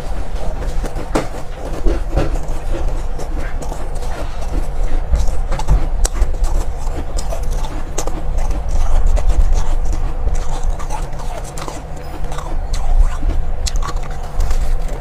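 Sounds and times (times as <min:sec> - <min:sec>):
crunching and chewing ice: 0:00.0 - 0:15.0
steady low rumble: 0:00.0 - 0:15.0.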